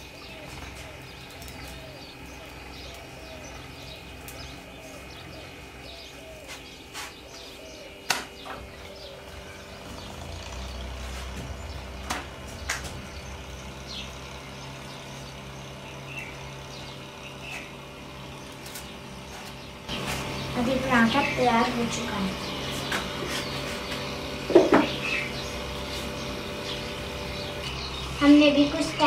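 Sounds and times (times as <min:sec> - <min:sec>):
household background hum: 0:00.0 - 0:29.0.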